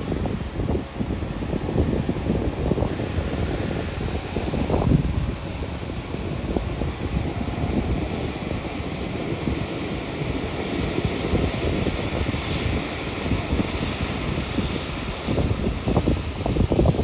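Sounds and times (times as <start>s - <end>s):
boat diesel engines rumbling: 0.0s - 17.0s
wind on microphone: 0.0s - 17.0s.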